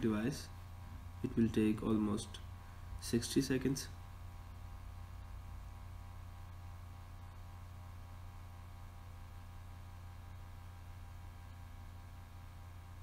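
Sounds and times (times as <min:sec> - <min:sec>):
mains hum: 0:00.0 - 0:13.0.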